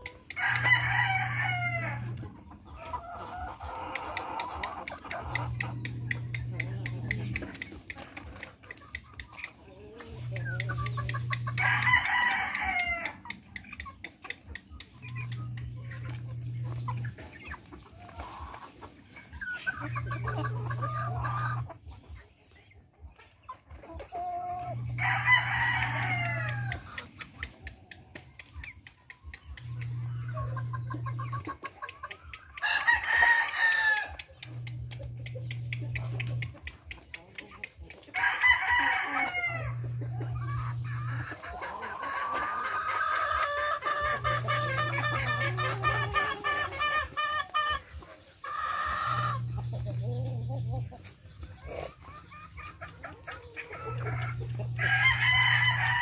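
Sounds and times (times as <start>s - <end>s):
chickens clucking softly: 0.0s - 56.0s.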